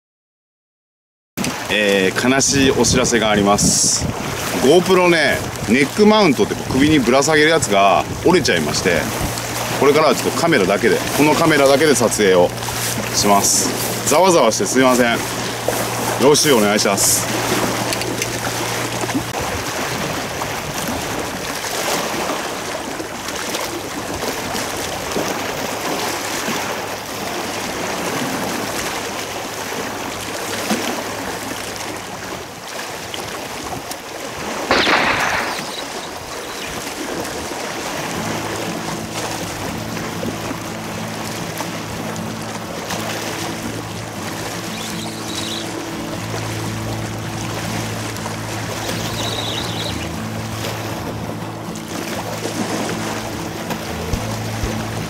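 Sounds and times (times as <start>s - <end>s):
seawater lapping at shore: 1.4s - 55.0s
water splash: 1.4s - 55.0s.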